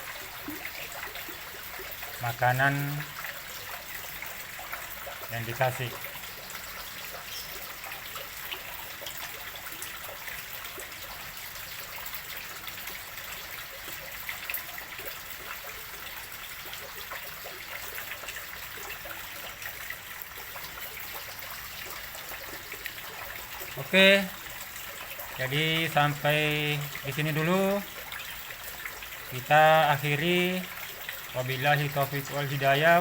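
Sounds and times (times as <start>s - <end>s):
water pouring into a pond: 0.0s - 33.0s.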